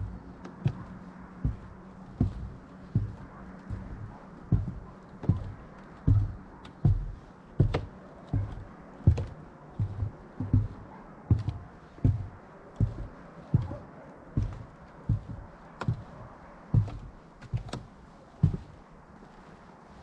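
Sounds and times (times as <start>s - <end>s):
footsteps dull thuds: 0.0s - 19.4s.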